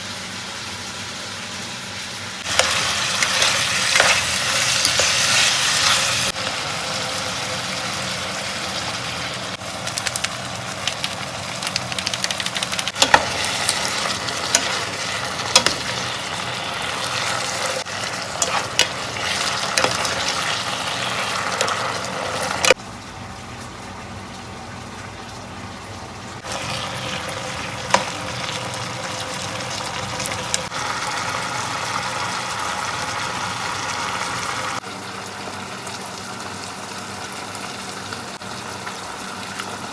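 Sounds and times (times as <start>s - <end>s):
food sizzling in a frying pan: 0.0s - 22.8s, 26.4s - 39.9s.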